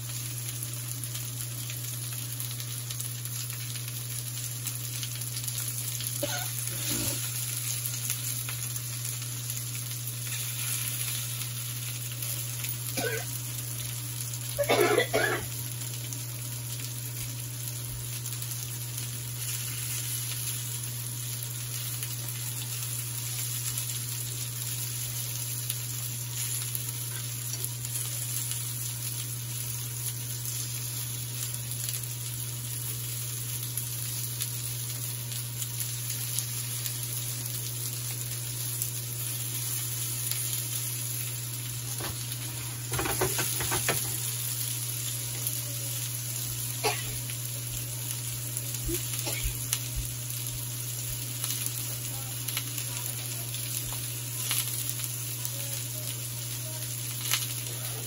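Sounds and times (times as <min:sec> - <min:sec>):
patties sizzling in oil: 0:00.0 - 0:58.0.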